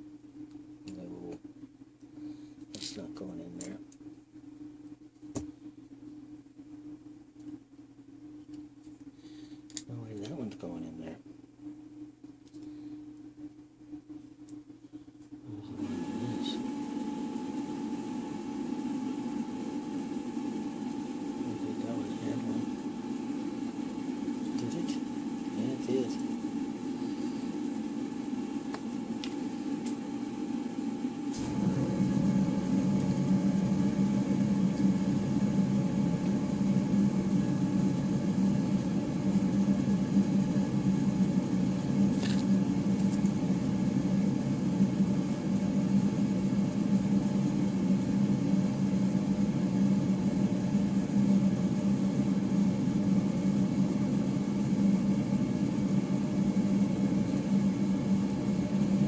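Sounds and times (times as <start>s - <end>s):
electric machine humming: 2.2s - 59.0s.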